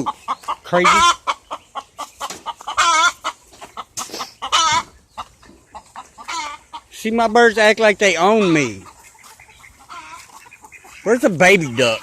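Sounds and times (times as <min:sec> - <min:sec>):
chicken squawking: 0:00.0 - 0:12.0
chickens clucking: 0:00.0 - 0:12.0.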